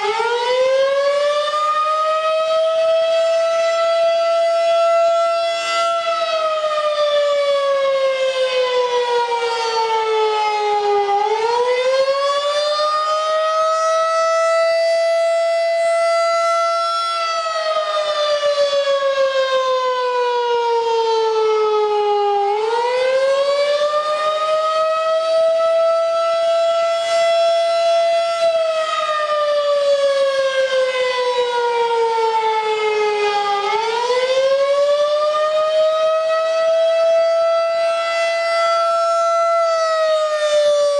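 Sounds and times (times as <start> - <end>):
tornado siren wailing: 0.0 - 40.9.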